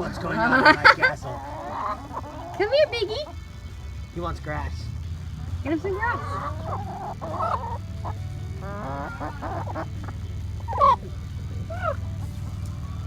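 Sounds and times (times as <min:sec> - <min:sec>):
chickens clucking and squawking: 0:00.0 - 0:04.1, 0:05.0 - 0:13.0.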